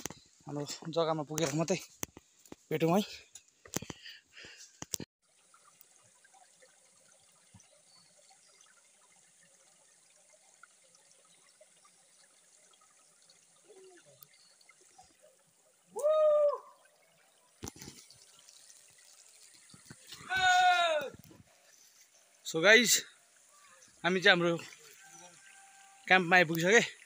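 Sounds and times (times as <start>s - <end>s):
forest stream trickling: 0.0s - 27.0s.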